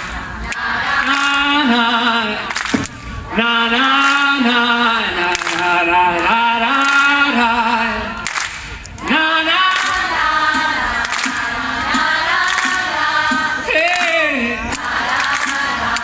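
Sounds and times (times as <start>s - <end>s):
crowd and singer singing: 0.0s - 16.0s.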